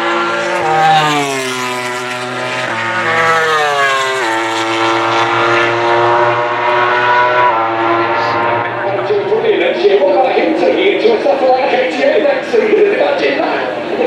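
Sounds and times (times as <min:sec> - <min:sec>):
racing motorcycle engine revving: 0:00.0 - 0:14.0.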